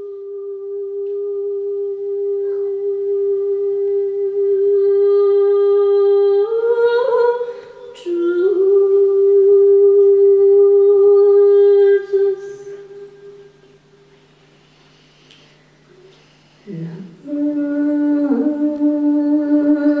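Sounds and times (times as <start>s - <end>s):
woman singing unaccompanied: 0.0s - 13.6s, 16.7s - 20.0s.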